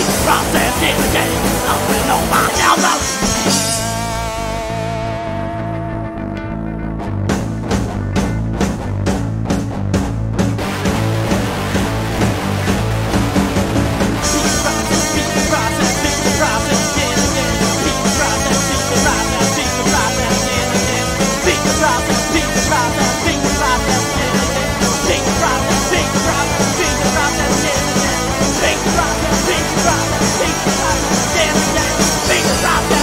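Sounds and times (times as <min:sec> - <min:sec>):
punk rock band playing: 0:00.0 - 0:33.0.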